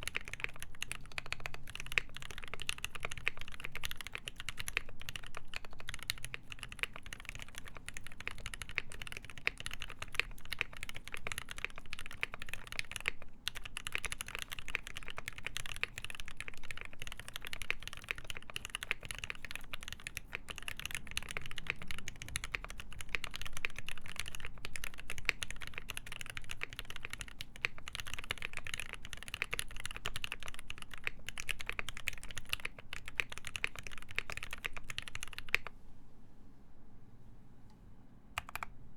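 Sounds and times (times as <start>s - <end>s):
fast typing on mechanical keyboard: 0.0s - 35.7s, 38.4s - 38.7s.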